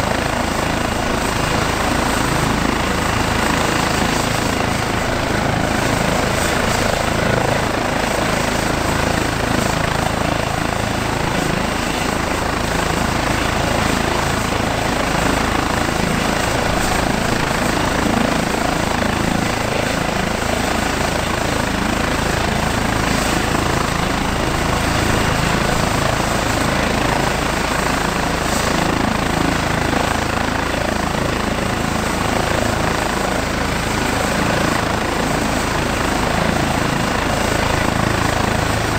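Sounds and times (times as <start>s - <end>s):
helicopter turbine whine and rotors: 0.0s - 38.9s.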